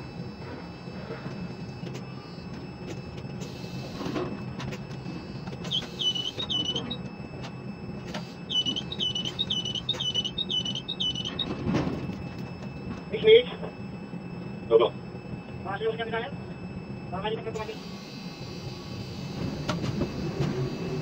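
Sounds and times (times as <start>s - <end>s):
crane machinery hum: 0.0s - 21.0s
electronic warning beeps: 0.0s - 21.0s.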